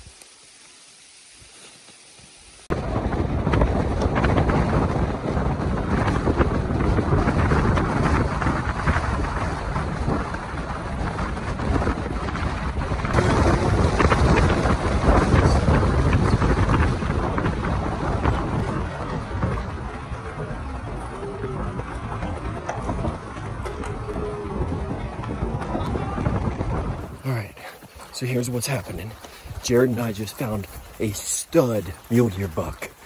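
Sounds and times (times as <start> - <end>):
tyres rumbling on gravel: 2.7 - 33.0
wind buffeting microphone: 2.7 - 33.0.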